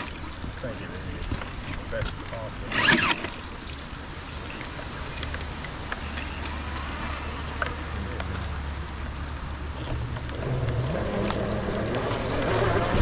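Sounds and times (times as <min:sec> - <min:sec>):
small drip-like ticks: 0:00.0 - 0:02.5, 0:03.4 - 0:12.3.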